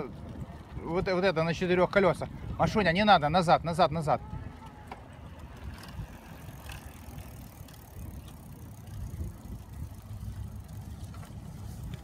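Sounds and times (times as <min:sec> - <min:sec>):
bicycle tyres rolling: 0:00.0 - 0:12.0
wind on microphone: 0:00.0 - 0:12.0.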